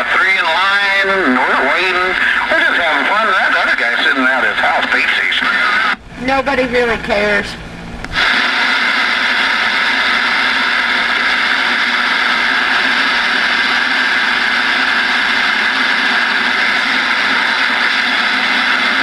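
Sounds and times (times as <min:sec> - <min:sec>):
radio static hiss: 0:00.0 - 0:07.4, 0:08.0 - 0:19.0.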